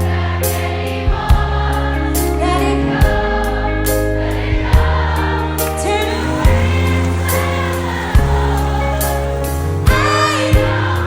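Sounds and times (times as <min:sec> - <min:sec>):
sustained choral chords: 0:00.0 - 0:11.0.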